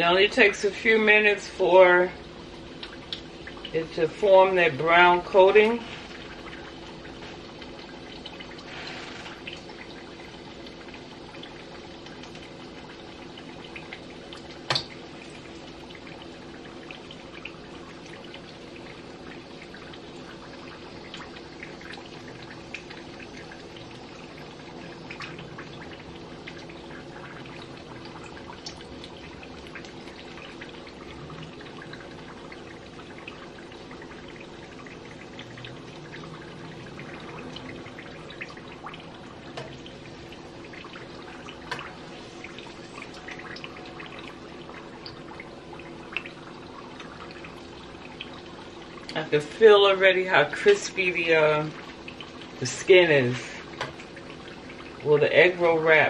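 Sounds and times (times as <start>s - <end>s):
oil sizzling and crackling: 0.0s - 55.9s.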